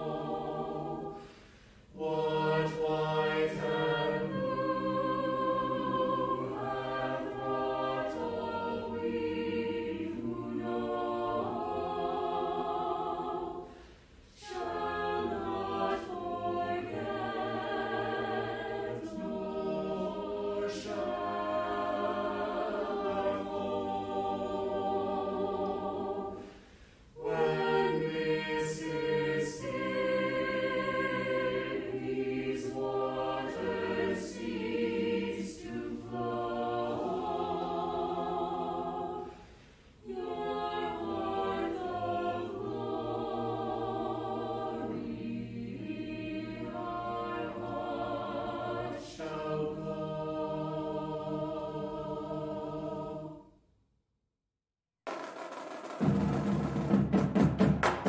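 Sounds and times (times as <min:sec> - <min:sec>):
choir singing sustained chords: 0:00.0 - 0:53.6.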